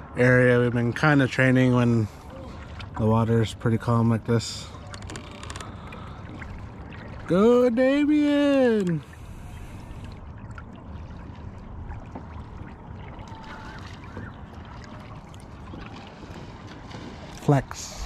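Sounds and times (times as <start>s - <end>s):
faint splashes: 0.0s - 18.0s
water lapping against canoe hull: 0.0s - 18.0s.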